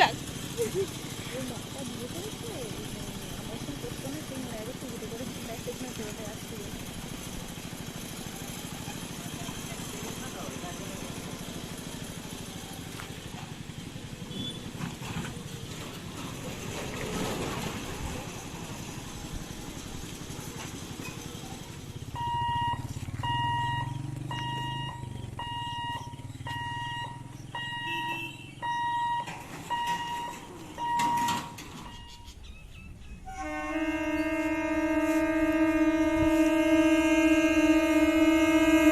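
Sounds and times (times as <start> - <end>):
vehicle engines running: 0.0 - 38.9.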